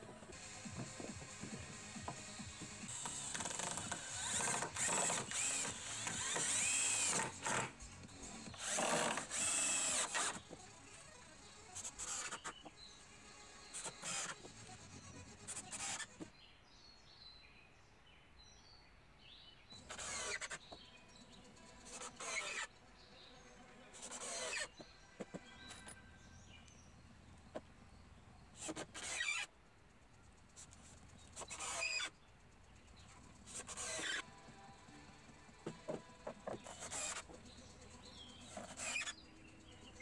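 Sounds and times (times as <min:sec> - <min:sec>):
cordless drill driving screws: 0:00.0 - 0:16.3, 0:19.8 - 0:22.7, 0:23.9 - 0:29.5, 0:30.6 - 0:32.1, 0:33.0 - 0:39.2.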